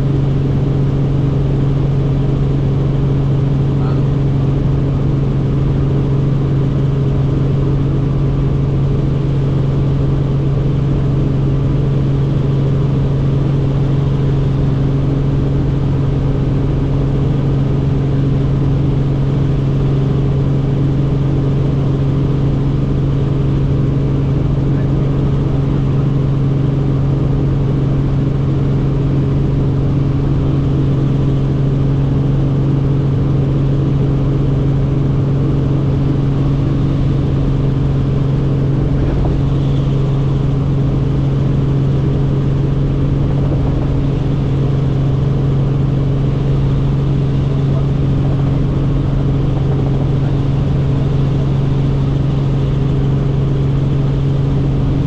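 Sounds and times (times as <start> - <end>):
helicopter in flight: 0.0 - 55.0.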